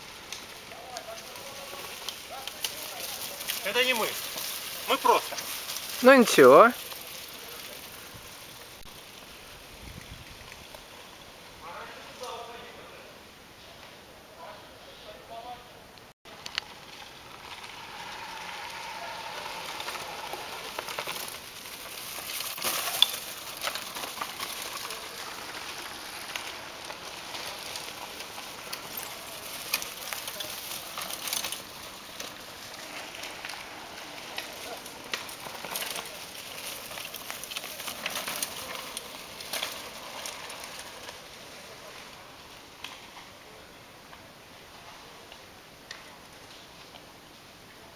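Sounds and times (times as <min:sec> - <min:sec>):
bikes riding over dry leaves: 0:00.0 - 0:15.6, 0:16.3 - 0:47.9.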